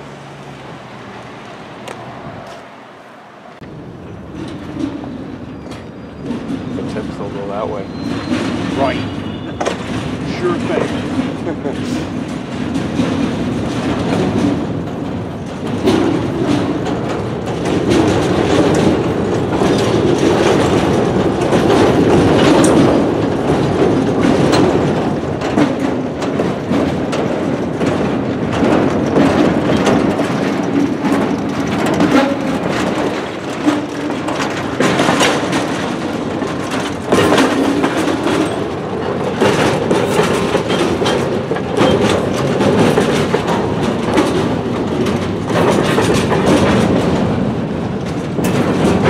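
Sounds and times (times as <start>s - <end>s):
train wheels rumbling on rails: 0.0s - 49.0s
wheels clicking over rail joints: 3.4s - 49.0s.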